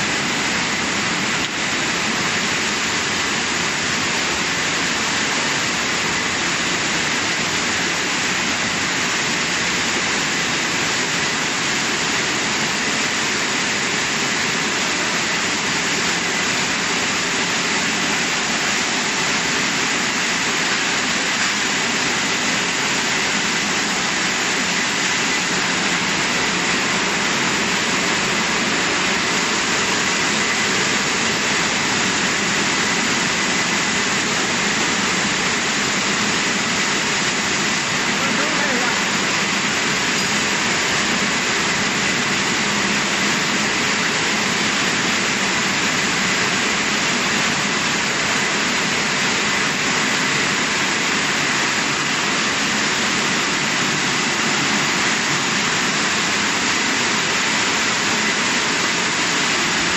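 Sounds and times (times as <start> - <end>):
air blowers rushing: 0.0 - 59.9.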